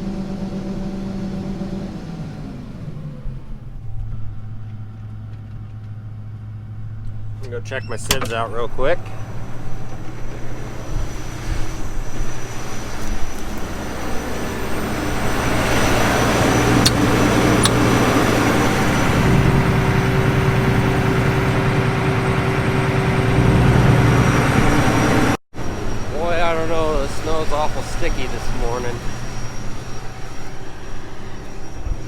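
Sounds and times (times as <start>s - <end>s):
combine harvester mechanical hum: 0.0s - 32.0s.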